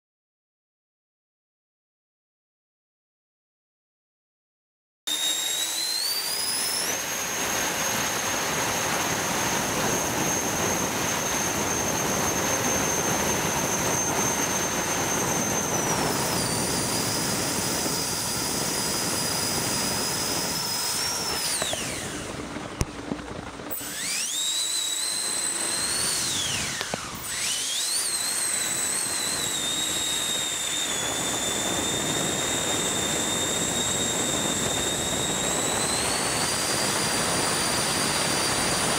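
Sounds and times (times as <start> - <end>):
electric fans whining: 5.1 - 38.9.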